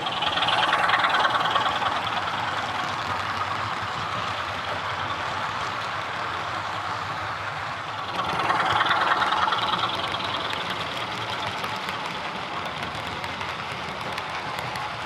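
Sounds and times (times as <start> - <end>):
diesel engine sound from small speaker: 0.0 - 15.0.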